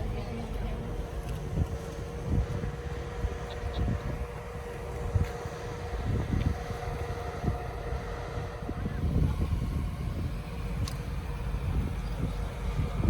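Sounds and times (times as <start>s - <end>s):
vehicle engine rumbling: 0.0s - 13.0s
wind buffeting microphone: 0.0s - 13.0s.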